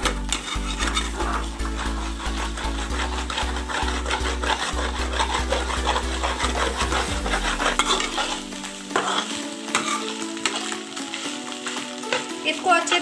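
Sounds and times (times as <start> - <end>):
metal spatula scraping pan: 0.0 - 12.6
eggs frying: 0.0 - 13.0.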